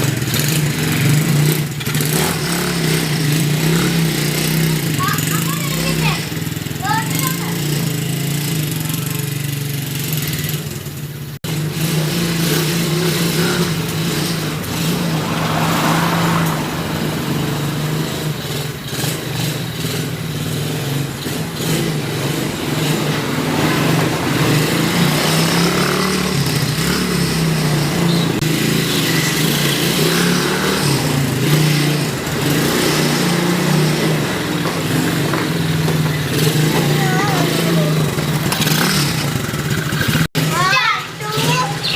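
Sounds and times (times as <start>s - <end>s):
quad bike engine running: 0.0s - 41.9s.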